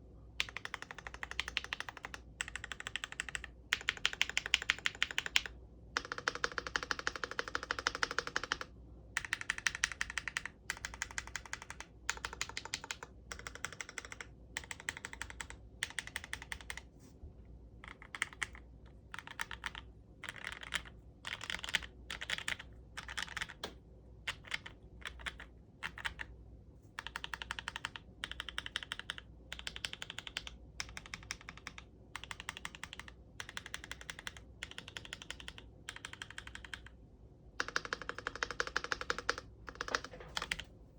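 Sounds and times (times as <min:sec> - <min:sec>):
typing on mechanical keyboard: 0:00.4 - 0:16.9, 0:17.8 - 0:26.3, 0:27.0 - 0:37.0, 0:37.6 - 0:40.7.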